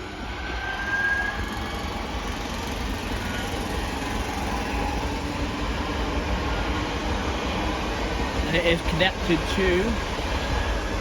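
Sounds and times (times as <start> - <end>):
faint steady whine: 0.0 - 11.0
wheels rumbling on rail: 0.0 - 11.0.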